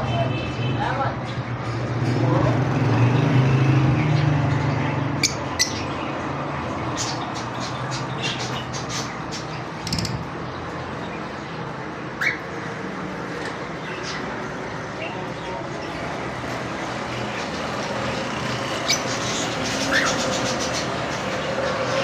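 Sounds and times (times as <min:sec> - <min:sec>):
birds squawking and chirping: 0:01.0 - 0:22.0.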